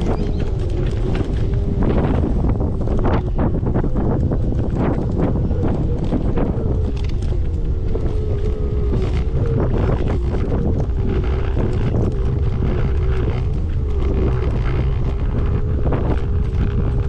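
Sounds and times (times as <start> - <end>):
constant low rumble: 0.0 - 17.0
wind buffeting microphone: 0.0 - 17.0.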